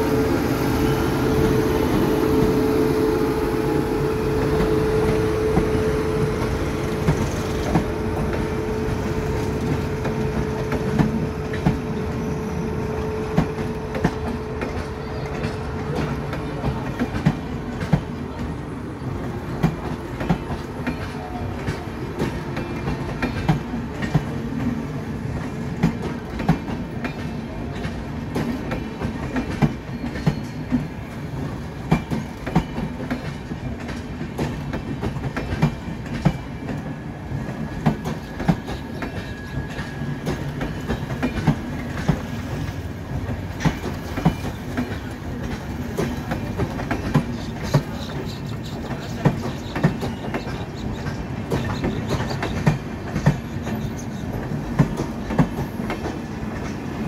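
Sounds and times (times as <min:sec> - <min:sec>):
electric locomotive hum: 0:00.0 - 0:57.0
train wheels clicking over rail joints: 0:04.4 - 0:12.2, 0:13.0 - 0:18.6, 0:19.2 - 0:57.0.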